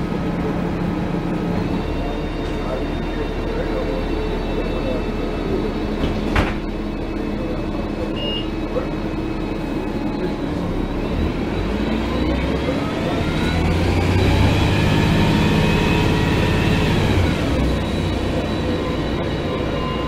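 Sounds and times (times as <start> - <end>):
diesel bus engine idling: 0.0 - 20.0.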